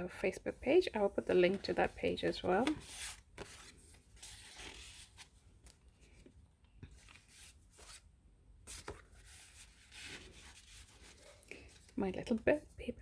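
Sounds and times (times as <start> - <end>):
paper pages rustling: 0.7 - 12.4.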